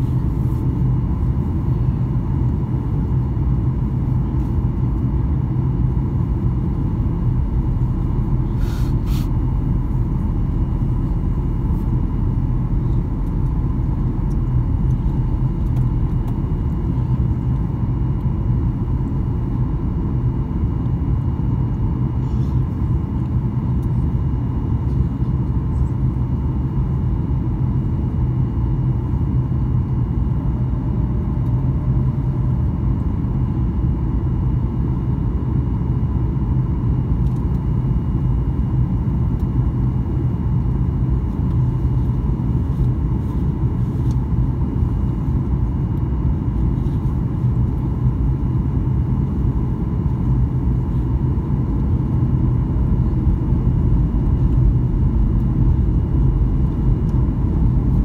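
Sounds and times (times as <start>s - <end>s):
airplane cabin rumble: 0.0s - 58.0s
faint steady whine: 0.0s - 58.0s.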